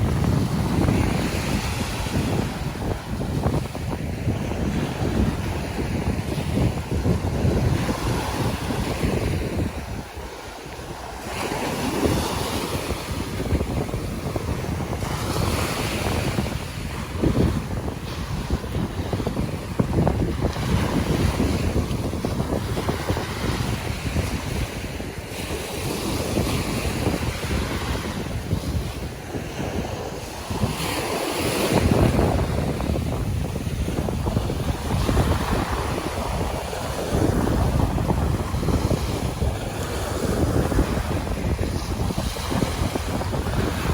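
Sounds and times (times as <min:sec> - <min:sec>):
sea waves washing onto beach: 0:00.0 - 0:43.9
wind buffeting microphone: 0:00.0 - 0:43.9.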